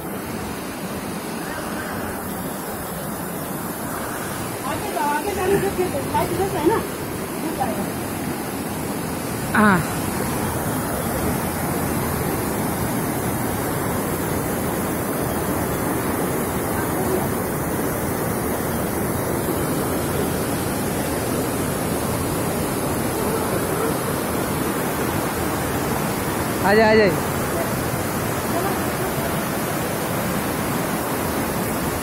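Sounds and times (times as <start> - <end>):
water rushing over boulders: 0.0 - 32.0.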